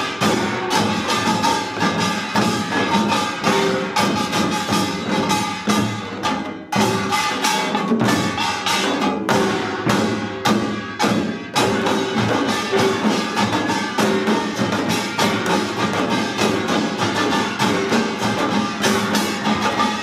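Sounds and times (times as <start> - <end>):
percussion ensemble drumming: 0.0 - 20.0
ringing gongs: 0.0 - 20.0.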